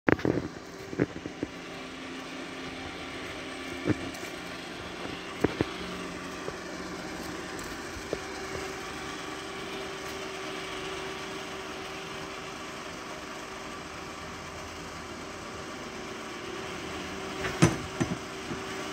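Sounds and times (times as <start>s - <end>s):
vehicle engine idling: 0.1s - 18.9s.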